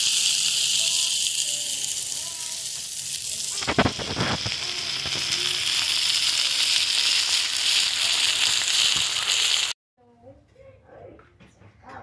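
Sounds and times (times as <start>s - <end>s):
food sizzling on a griddle: 0.0s - 9.8s.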